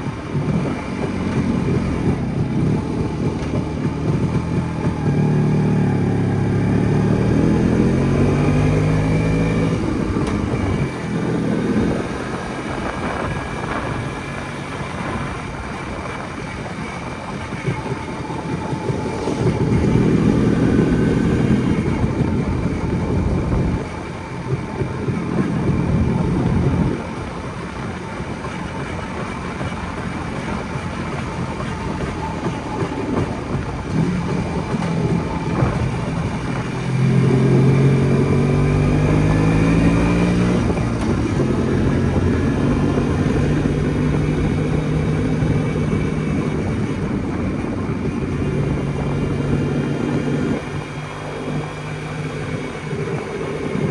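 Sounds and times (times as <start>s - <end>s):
riding noise: 0.0s - 53.9s
two-stroke motorcycle engine revving: 0.0s - 53.9s.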